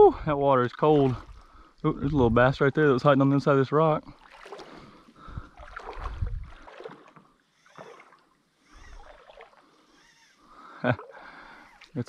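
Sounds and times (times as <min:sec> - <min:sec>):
river water splashing around legs: 0:00.6 - 0:03.4, 0:04.0 - 0:12.0.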